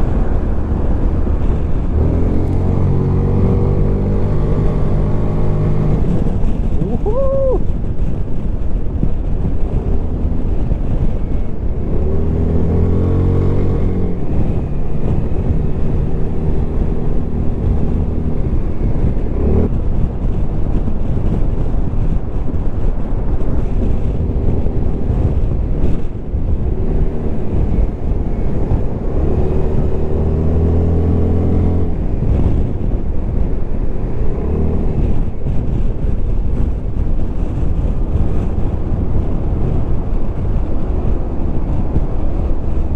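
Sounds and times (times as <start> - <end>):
wind noise on microphone: 0.0 - 42.9.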